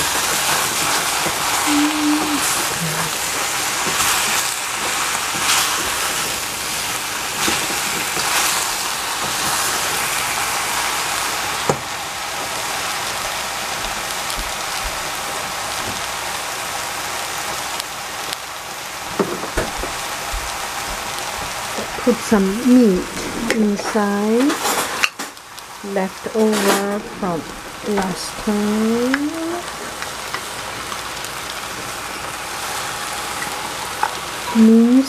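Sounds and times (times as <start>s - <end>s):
eggplant sizzling in a pan: 0.0s - 35.0s.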